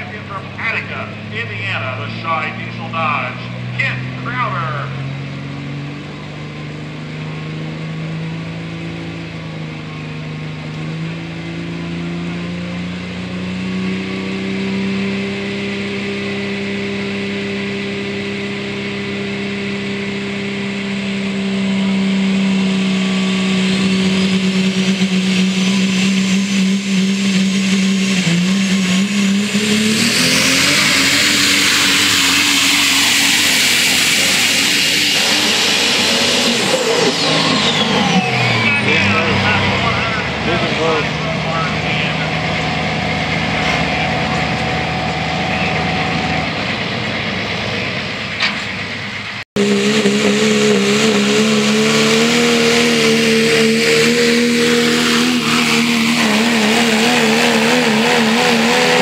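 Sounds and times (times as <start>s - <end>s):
diesel truck engine revving: 0.0s - 59.0s
turbo whine: 0.0s - 59.0s.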